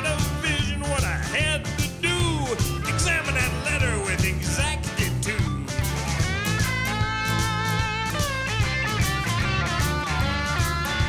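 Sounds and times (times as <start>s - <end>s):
bass guitar: 0.0s - 11.0s
drum kit: 0.0s - 11.0s
electric guitar with bent notes: 0.0s - 11.0s.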